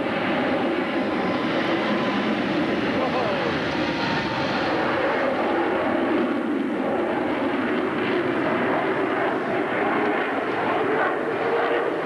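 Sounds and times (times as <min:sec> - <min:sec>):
airplane engine: 0:00.0 - 0:12.0.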